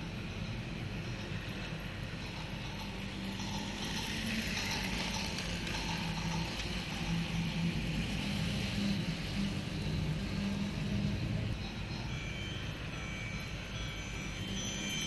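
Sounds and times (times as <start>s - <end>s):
toy train motor humming: 0.0s - 15.0s
toy train wheels clicking on rails: 0.0s - 15.0s.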